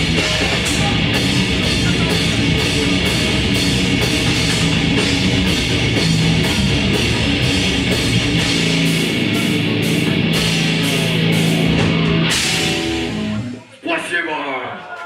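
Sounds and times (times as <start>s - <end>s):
distorted electric guitars: 0.0s - 13.8s
drums: 0.0s - 14.2s.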